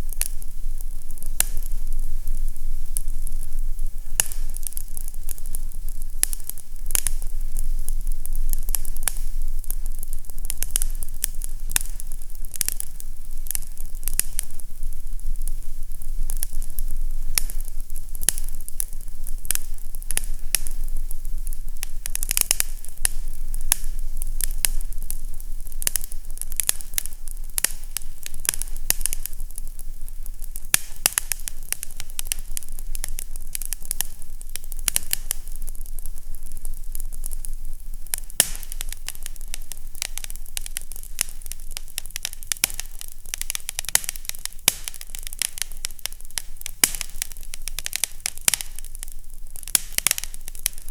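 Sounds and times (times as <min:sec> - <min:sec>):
steady hiss: 0:00.0 - 0:50.9
wood fire crackling: 0:00.0 - 0:50.9.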